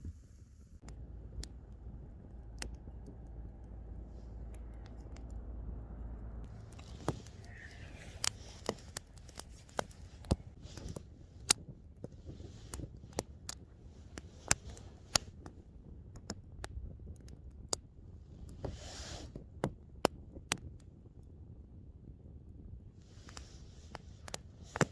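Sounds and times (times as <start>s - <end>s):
low steady rumble: 0.0s - 24.9s
wood fire crackling: 0.0s - 24.9s.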